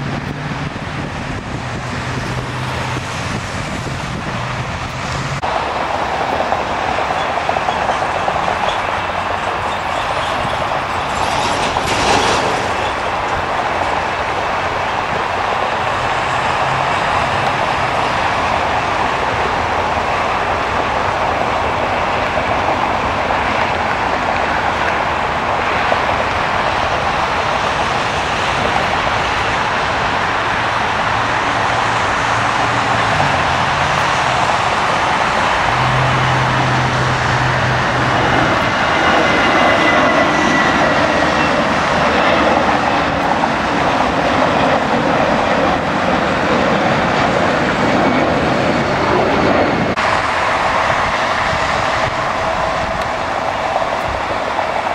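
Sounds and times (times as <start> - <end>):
jet engines at takeoff power: 0.0 - 54.9.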